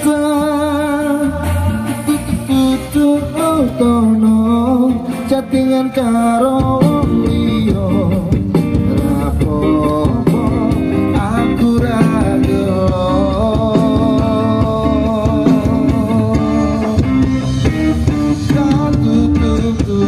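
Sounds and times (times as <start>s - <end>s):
person singing with guitar: 0.0s - 20.0s.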